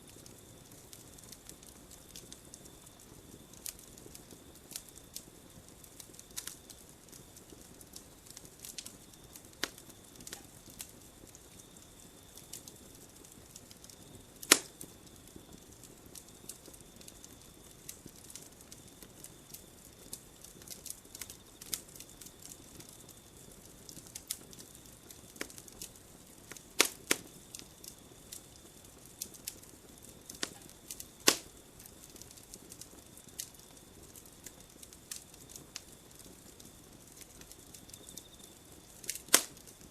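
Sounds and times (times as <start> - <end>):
campfire crackling: 0.0 - 39.9
sharp pops of fire: 0.0 - 39.9.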